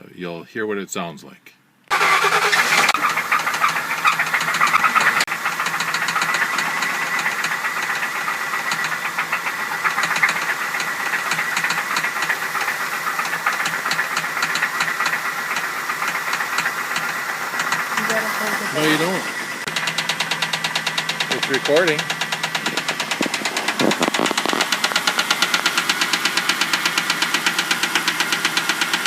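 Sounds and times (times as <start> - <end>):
car engine idling: 1.9 - 29.0
loud fast regular engine tick: 1.9 - 29.0.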